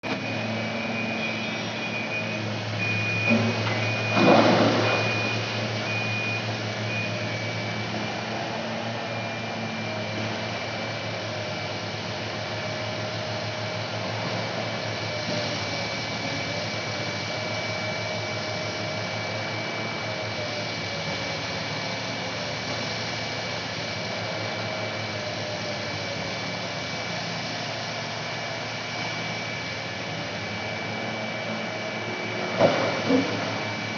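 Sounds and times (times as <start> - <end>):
excavator engine under hydraulic load: 0.0 - 33.9.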